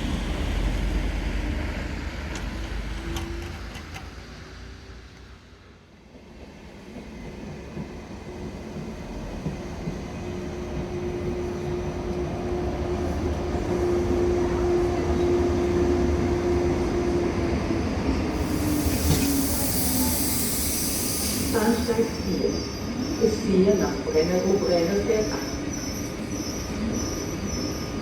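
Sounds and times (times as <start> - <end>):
railway locomotive running: 0.0 - 28.0.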